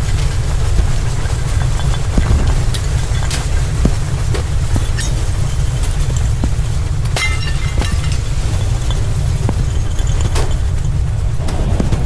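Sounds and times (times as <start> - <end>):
crackles and snaps: 0.0 - 12.0
volcano low rumble: 0.0 - 12.0.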